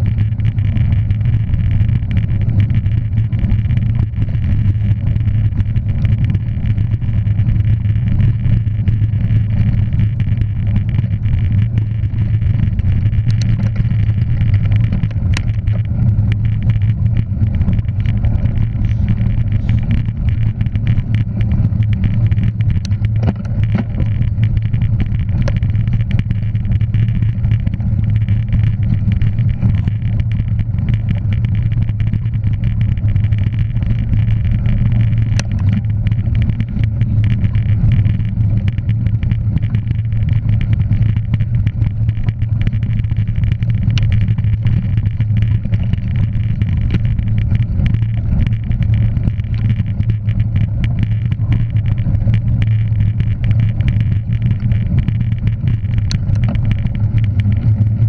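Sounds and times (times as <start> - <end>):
motor vehicle droning: 0.0 - 58.0
faint clicks: 9.2 - 58.0.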